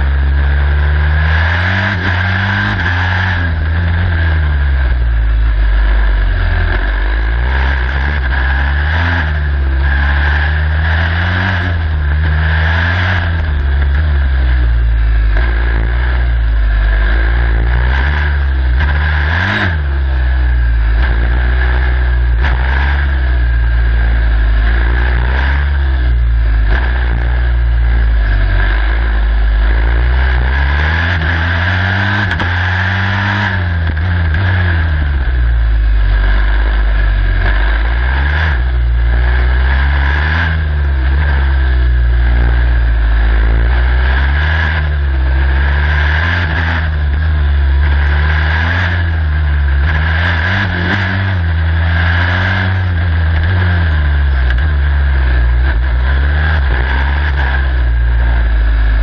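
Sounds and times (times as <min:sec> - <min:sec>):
high whine: 0:00.0 - 0:59.0
race car engine revving: 0:00.0 - 0:59.0.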